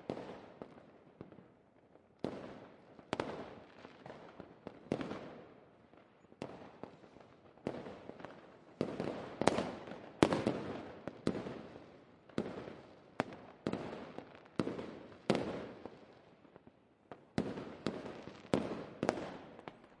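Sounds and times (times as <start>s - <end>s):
fireworks banging and crackling: 2.2s - 5.6s, 6.4s - 16.3s, 17.1s - 20.0s.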